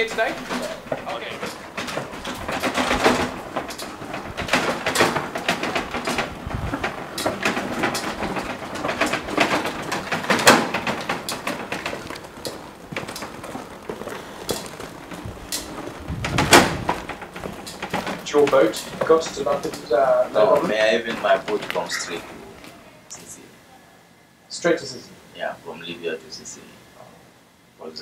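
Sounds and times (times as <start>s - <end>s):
load rattling and knocking: 0.0s - 22.7s
wheelbarrow rolling over paving: 0.0s - 23.4s.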